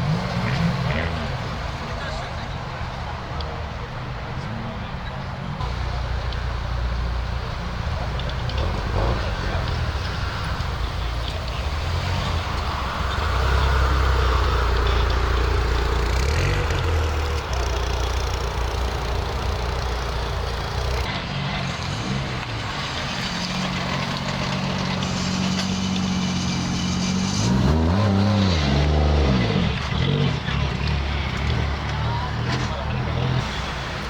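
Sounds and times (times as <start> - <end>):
engine revving: 0.0 - 2.6, 5.6 - 34.0
car engines running: 0.0 - 34.0.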